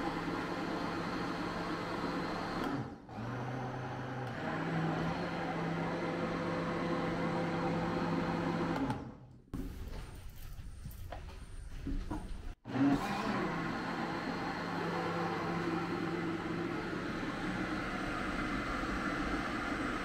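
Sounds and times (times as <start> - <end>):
kitchen appliance motor running: 0.0 - 9.0, 12.7 - 20.0.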